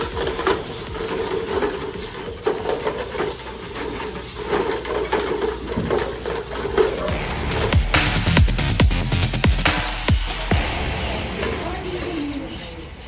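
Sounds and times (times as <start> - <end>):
robot electric motors whining: 0.0 - 13.0.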